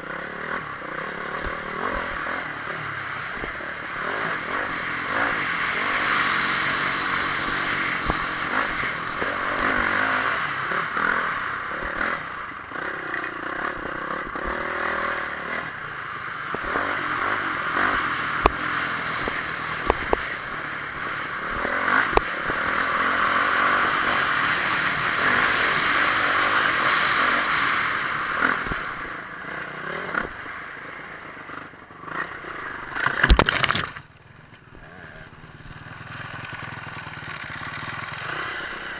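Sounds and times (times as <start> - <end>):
motocross bike engine revving: 0.0 - 34.0, 34.7 - 38.9.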